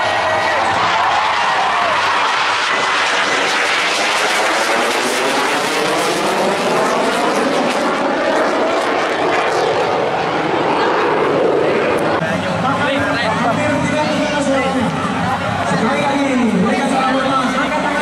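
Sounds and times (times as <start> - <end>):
jet engine roaring overhead: 0.0 - 18.0.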